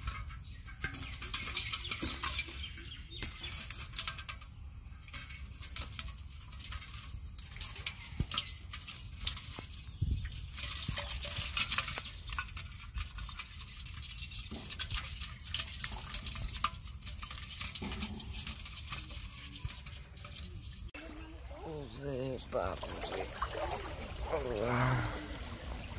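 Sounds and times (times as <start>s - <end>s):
shrimp and eels wriggling in water: 0.0s - 25.9s.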